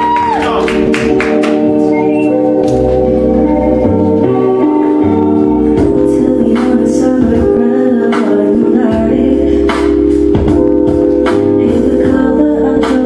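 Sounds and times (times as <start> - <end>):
bass line: 0.0 - 13.0
organ-like keyboard chords: 0.5 - 13.0.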